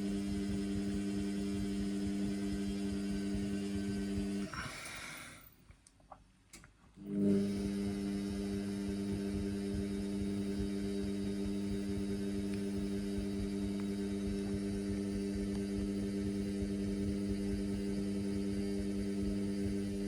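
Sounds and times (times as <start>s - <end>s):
washing machine humming: 0.0s - 5.5s, 7.0s - 20.0s.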